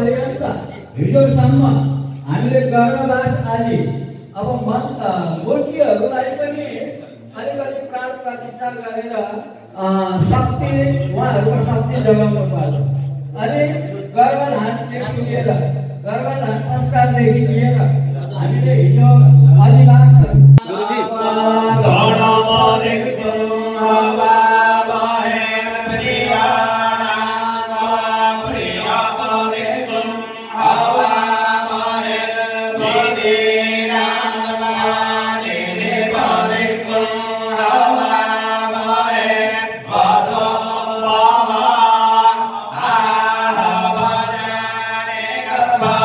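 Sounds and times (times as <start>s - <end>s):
man chanting: 0.0s - 46.0s.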